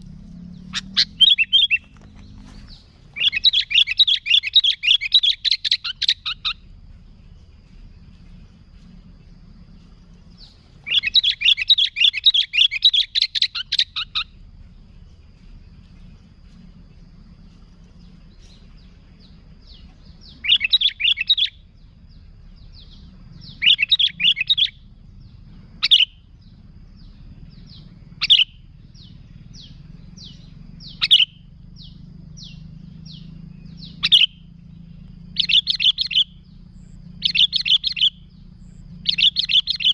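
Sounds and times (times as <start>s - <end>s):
bird chattering song: 0.0s - 39.9s
sharp falling bird calls: 0.0s - 39.9s.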